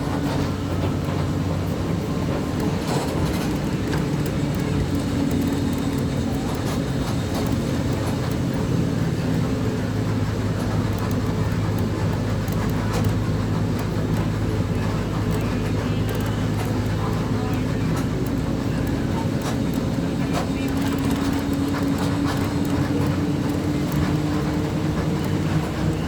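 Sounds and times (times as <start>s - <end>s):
road noise: 0.0s - 26.0s
vehicle engine droning: 0.0s - 26.0s.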